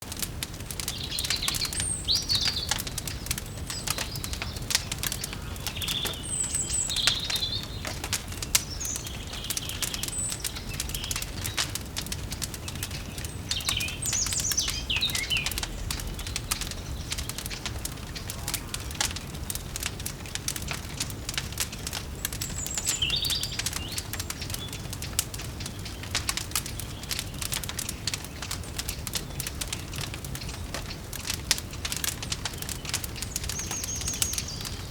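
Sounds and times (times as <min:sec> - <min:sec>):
wood fire crackling: 0:00.0 - 0:34.9
birds chirping: 0:00.7 - 0:34.9.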